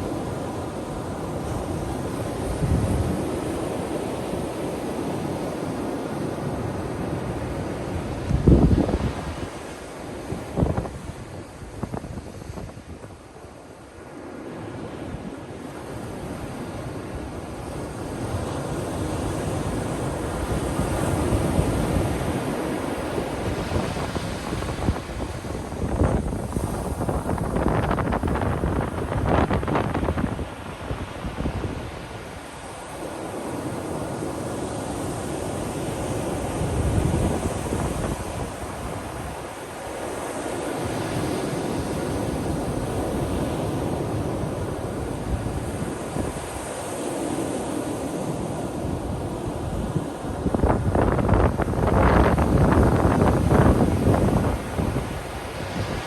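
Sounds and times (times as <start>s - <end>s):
wind rumbling on microphone: 0.0s - 13.6s, 14.8s - 56.0s
ocean surf breaking on beach: 0.0s - 56.0s.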